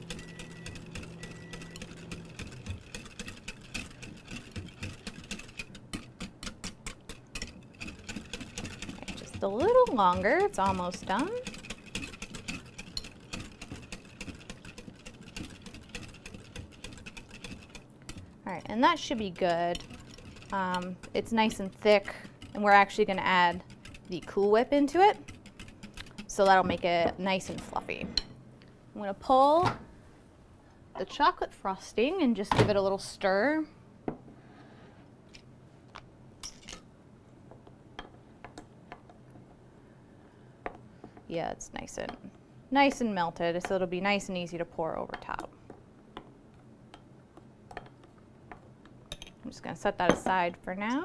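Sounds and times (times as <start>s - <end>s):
room hum: 0.0s - 51.0s.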